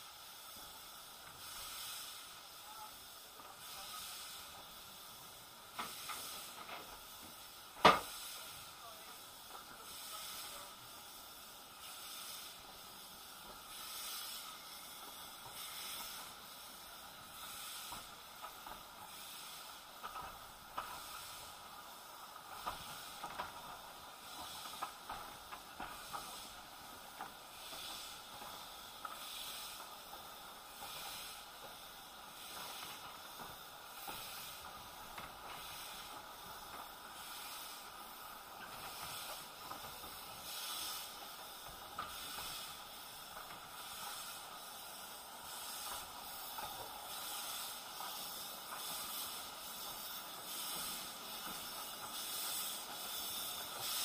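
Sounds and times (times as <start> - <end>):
steam train hissing: 0.0 - 54.0.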